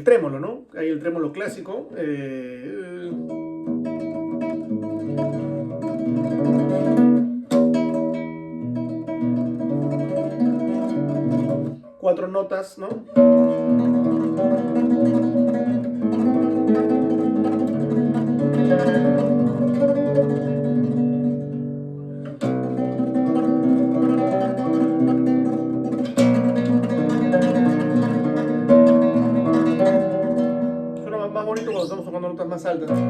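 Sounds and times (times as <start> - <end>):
nylon-string guitar tremolo: 1.6 - 33.0.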